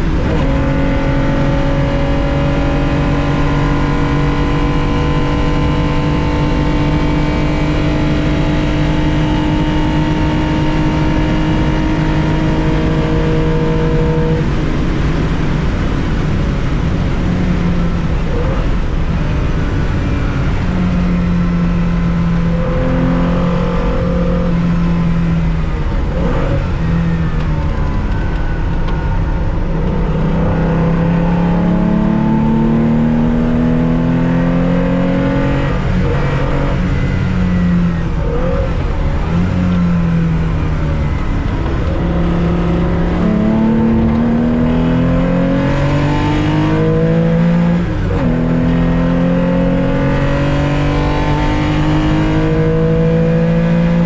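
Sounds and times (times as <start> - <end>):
car engine at racing speed: 0.0 - 54.0.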